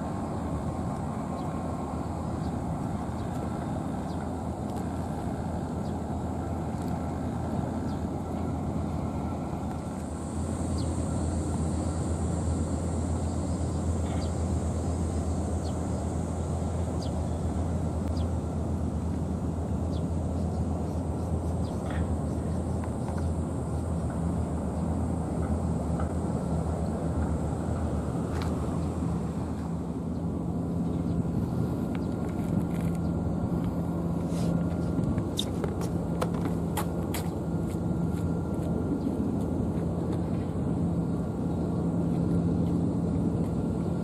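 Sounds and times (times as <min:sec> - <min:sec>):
low outdoor rumble: 0:00.0 - 0:44.0.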